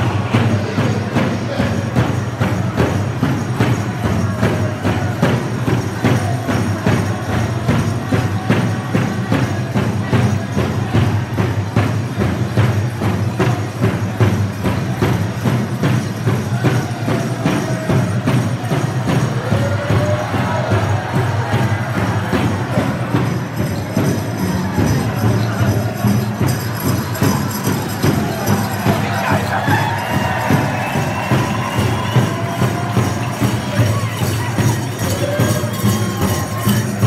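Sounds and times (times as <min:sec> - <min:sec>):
large drum beating: 0:00.0 - 0:37.0.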